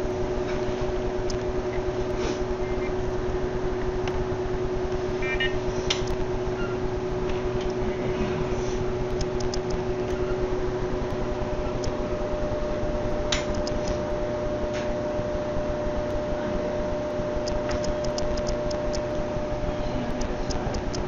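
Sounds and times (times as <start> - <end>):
background hum with held tones: 0.0 - 21.0.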